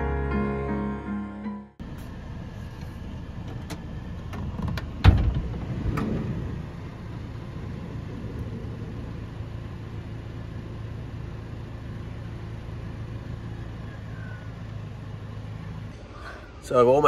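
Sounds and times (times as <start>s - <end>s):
vehicle engine idling: 1.8s - 17.0s.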